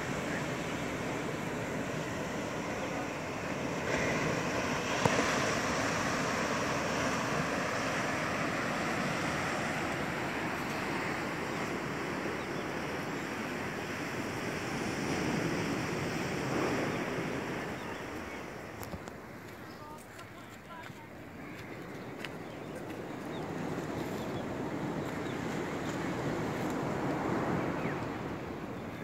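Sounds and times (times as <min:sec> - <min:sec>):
sea surf washing: 0:00.0 - 0:21.7, 0:22.6 - 0:29.0.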